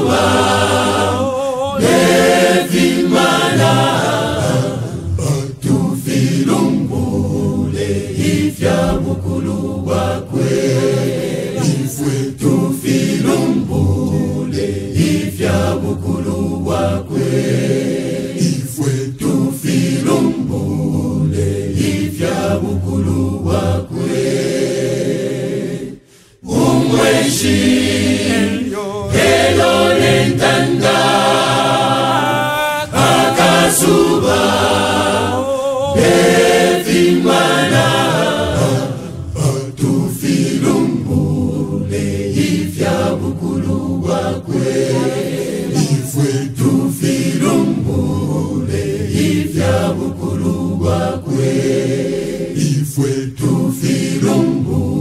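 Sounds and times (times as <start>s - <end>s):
choir singing a cappella hymn: 0.0s - 55.0s.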